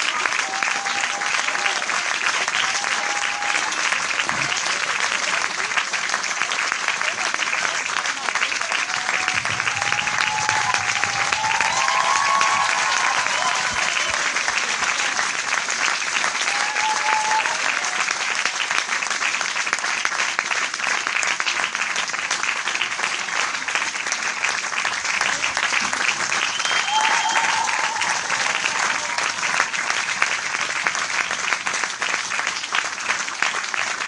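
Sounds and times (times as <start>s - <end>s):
faint voices from crowd: 0.0s - 30.9s
large audience applauding: 0.0s - 34.0s.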